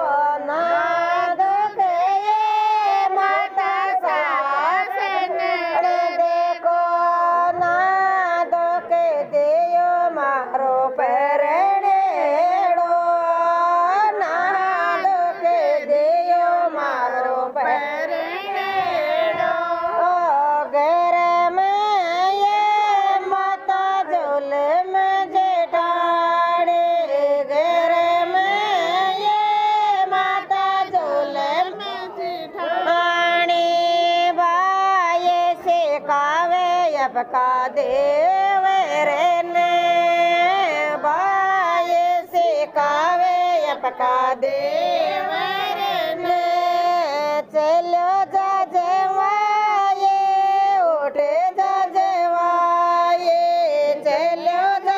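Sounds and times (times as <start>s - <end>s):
women singing folk song: 0.0s - 54.9s.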